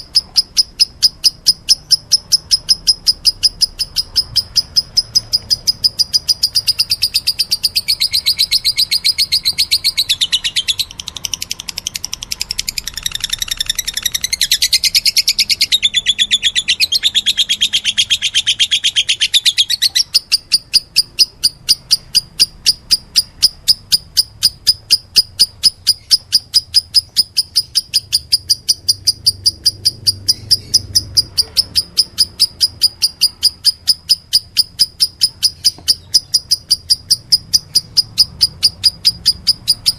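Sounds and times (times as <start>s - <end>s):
birds chattering: 0.0s - 39.9s
young birds cheeping: 0.0s - 39.9s.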